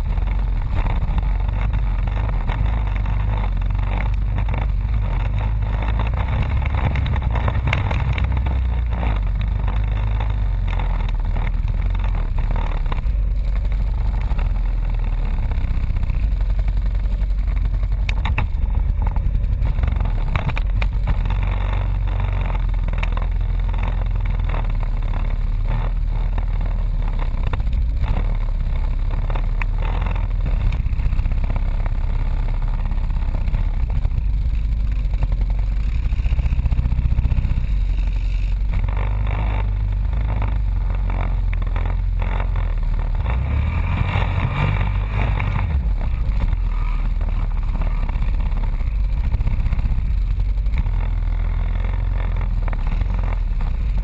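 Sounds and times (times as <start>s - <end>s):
atv engine running under load: 0.0s - 54.0s.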